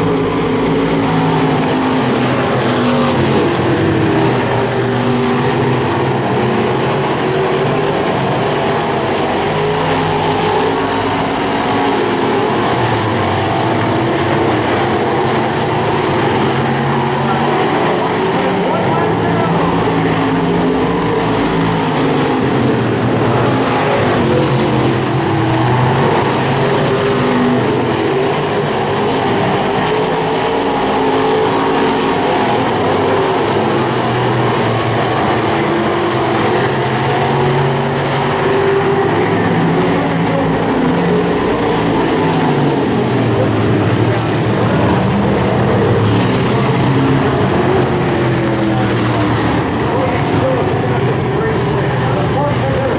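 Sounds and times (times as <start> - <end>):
stock car engines racing: 0.0 - 52.9.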